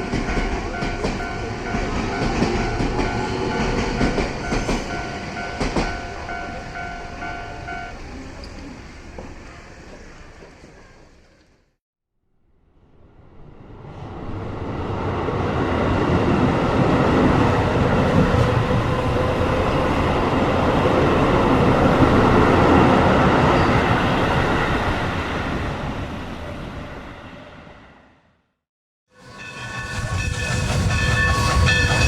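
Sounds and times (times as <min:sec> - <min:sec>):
train rumbling on rails: 0:00.0 - 0:11.7, 0:12.8 - 0:28.2, 0:29.1 - 0:32.0.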